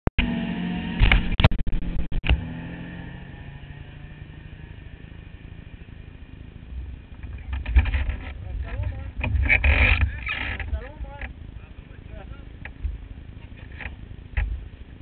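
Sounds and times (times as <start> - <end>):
pitched engine hum: 0.2 - 15.0
engines idling with low rumble: 2.3 - 15.0.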